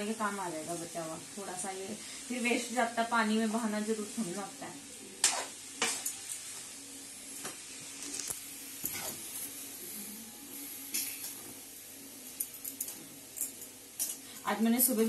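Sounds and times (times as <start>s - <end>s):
faint frying sizzle: 0.0s - 15.0s.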